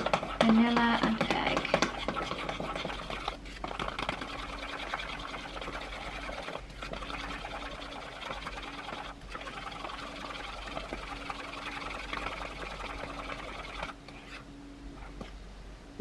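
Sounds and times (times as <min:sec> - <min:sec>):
electric hand mixer whisking: 0:00.0 - 0:14.3.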